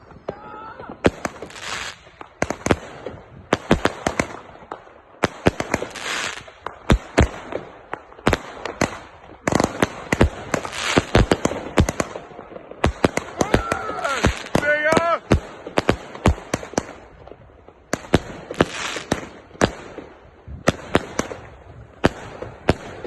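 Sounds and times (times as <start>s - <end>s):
firework bangs: 0.0s - 23.0s
firework crackling: 0.0s - 23.0s.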